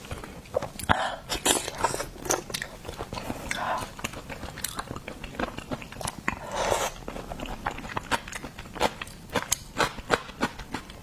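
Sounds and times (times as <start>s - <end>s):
wet chewing and biting: 0.5s - 11.0s.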